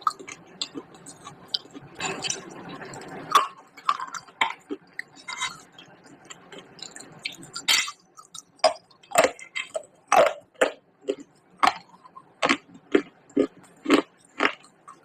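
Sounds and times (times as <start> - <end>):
person chewing crunchy clay: 0.0 - 15.0.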